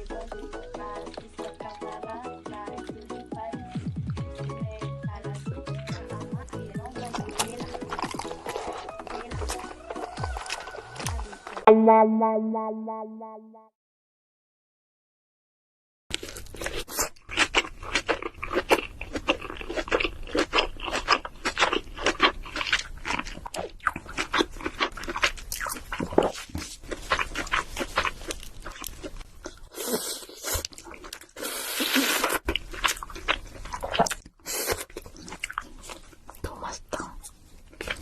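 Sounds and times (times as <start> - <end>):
chewing: 0.0 - 4.6, 5.2 - 11.7, 16.1 - 38.0.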